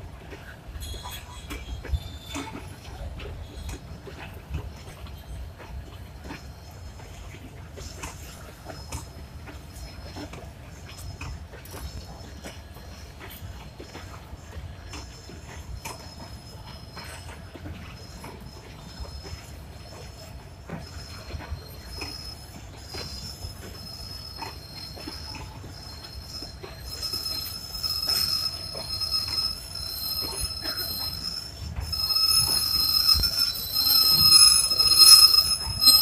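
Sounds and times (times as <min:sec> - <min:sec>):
train wheels squealing: 0:00.0 - 0:36.0
wheels clicking over rail joints: 0:00.0 - 0:36.0.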